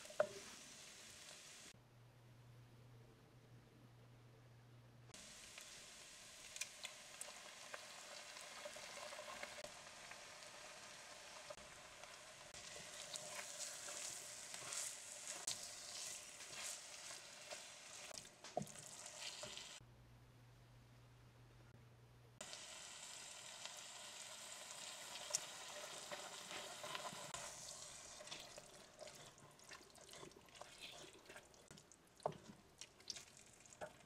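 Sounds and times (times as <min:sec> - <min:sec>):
food sizzling in a pot: 0:00.0 - 0:01.7, 0:05.2 - 0:19.8, 0:22.4 - 0:34.0.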